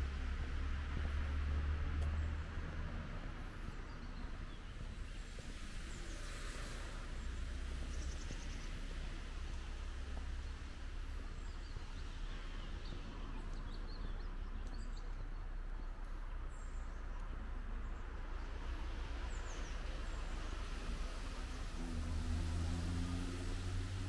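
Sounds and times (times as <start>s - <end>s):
steady low rumble: 0.0s - 22.8s.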